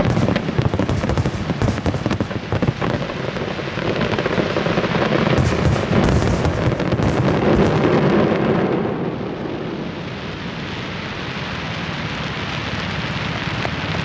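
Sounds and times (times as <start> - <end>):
fireworks rumbling: 0.0 - 14.0.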